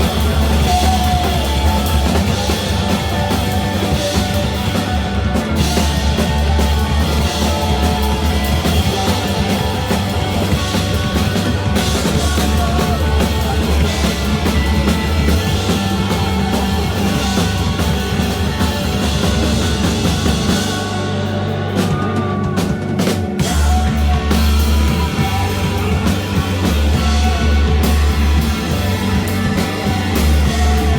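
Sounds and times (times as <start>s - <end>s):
rock band playing live: 0.0s - 30.9s.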